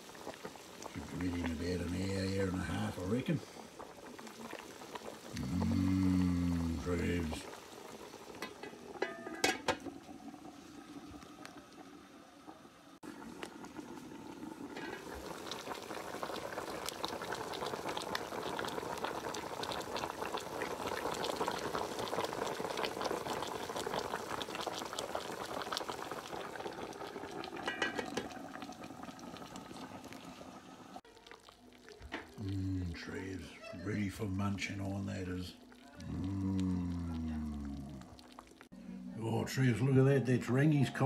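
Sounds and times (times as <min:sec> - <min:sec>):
pot boiling with bursting bubbles: 0:00.0 - 0:41.0.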